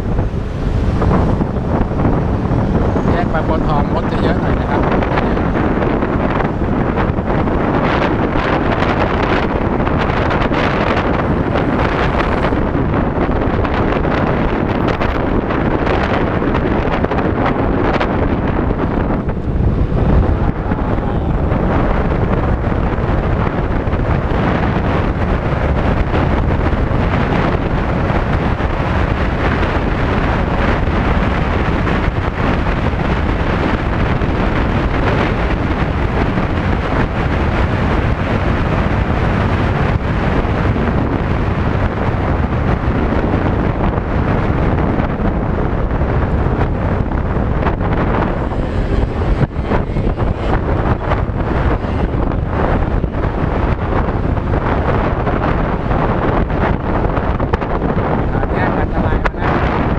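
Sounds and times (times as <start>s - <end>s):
scooter running noise: 0.0s - 59.9s
wind rush on microphone: 0.0s - 59.9s.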